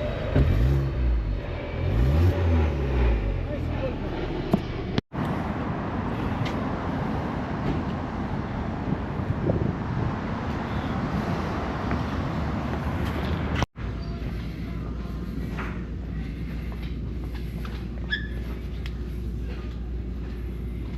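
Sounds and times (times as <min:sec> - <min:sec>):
car engine and road noise: 0:00.0 - 0:20.9.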